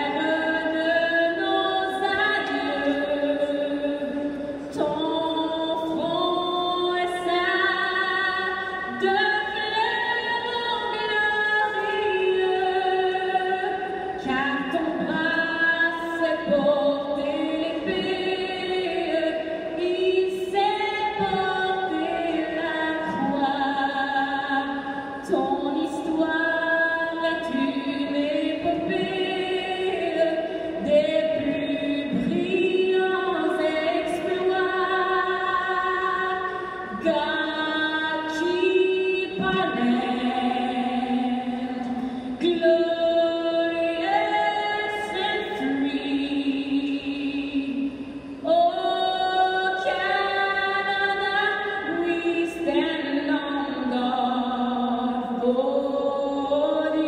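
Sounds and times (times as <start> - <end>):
person singing a cappella: 0.0 - 57.0.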